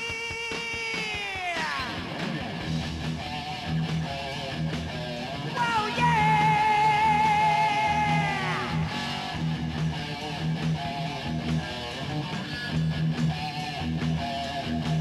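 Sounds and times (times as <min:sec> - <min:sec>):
electric guitar lead: 0:00.0 - 0:15.0
hard rock band playing: 0:00.0 - 0:15.0.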